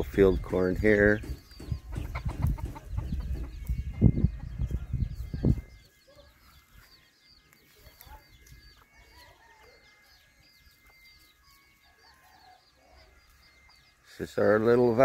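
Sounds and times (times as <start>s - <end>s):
faint chicken clucking: 0.0s - 15.0s
small birds chirping: 0.0s - 15.0s.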